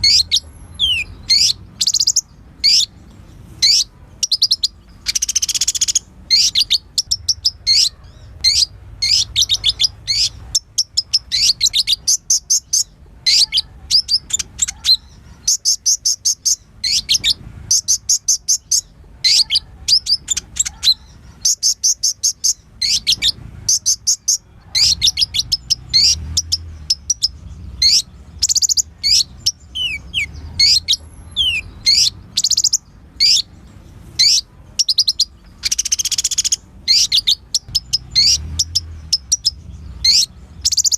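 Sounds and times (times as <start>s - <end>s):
bird chirps and trills: 0.0s - 40.9s.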